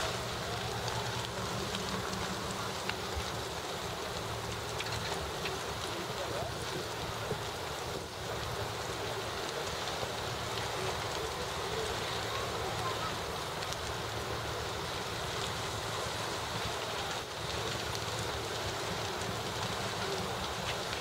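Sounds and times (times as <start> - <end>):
faint crackles: 0.0 - 21.0
fire engine pump humming: 0.0 - 21.0
flames burning: 0.0 - 21.0
hose water rushing: 0.0 - 21.0.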